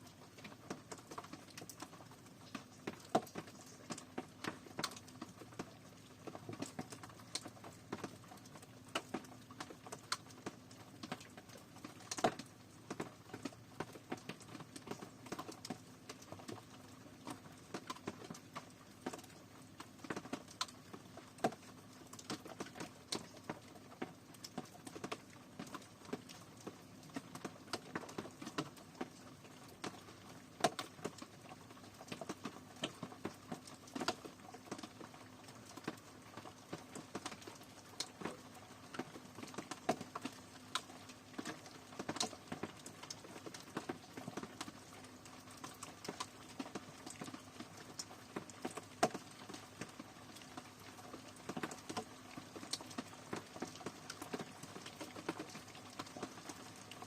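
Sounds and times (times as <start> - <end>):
faint steady hum: 0.0 - 57.0
raindrops pattering: 0.0 - 57.0.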